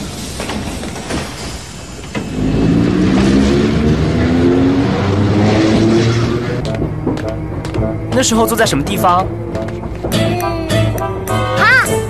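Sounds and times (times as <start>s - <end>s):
tram rumble: 0.0s - 12.0s.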